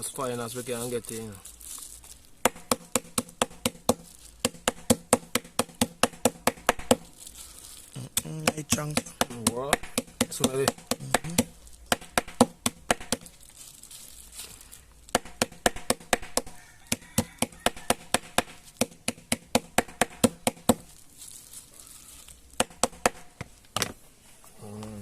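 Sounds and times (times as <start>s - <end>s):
seeds being pounded: 2.0s - 13.6s, 14.2s - 24.0s.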